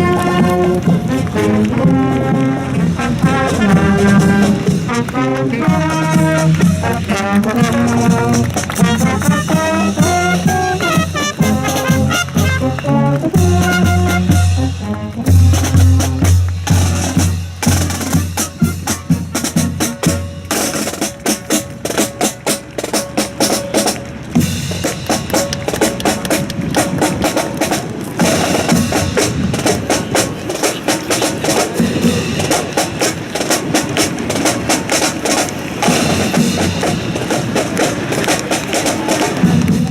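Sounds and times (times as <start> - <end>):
low held notes: 0.0 - 39.9
snare and bass drum rolls: 0.0 - 39.9.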